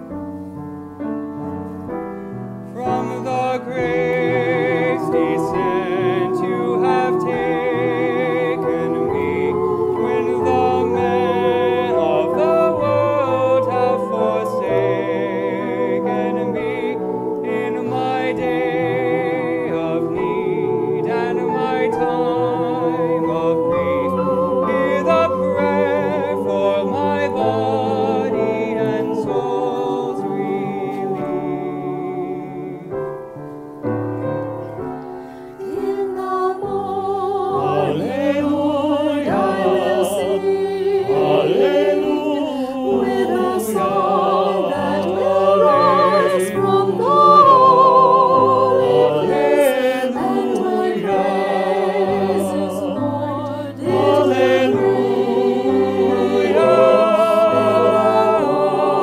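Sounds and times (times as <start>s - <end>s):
piano accompaniment: 0.0s - 59.0s
mixed choir singing: 2.7s - 33.8s, 34.6s - 59.0s.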